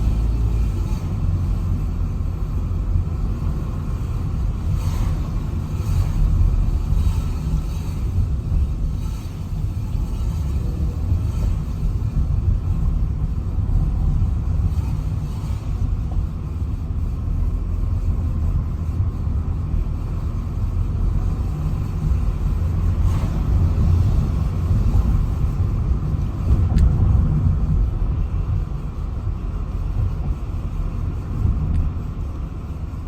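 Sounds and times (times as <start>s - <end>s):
car driving rumble: 0.0s - 33.0s.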